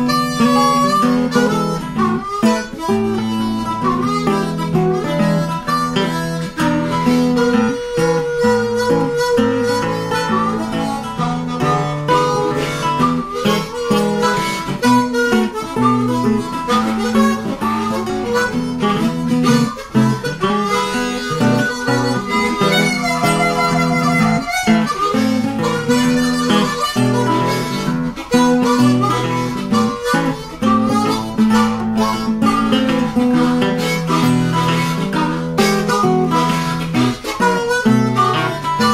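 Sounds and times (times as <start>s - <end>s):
acoustic guitar strumming: 0.0s - 38.9s
harmonica melody: 0.0s - 38.9s.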